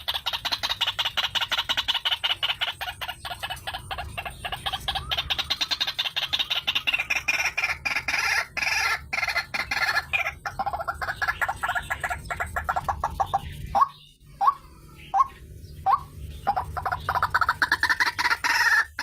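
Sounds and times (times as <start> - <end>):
bird calling rapid notes: 0.0 - 19.0.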